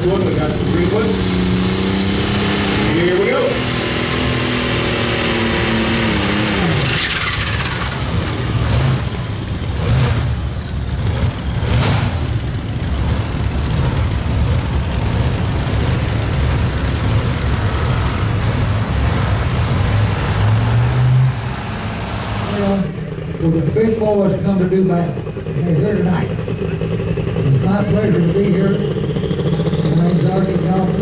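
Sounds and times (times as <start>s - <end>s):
tractor engine at full throttle: 0.0s - 31.0s.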